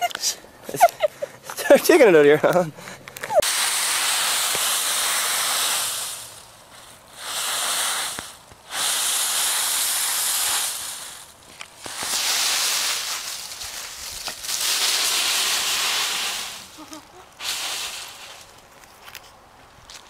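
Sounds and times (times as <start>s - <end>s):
dry leaves rustling and crunching: 3.4s - 20.0s.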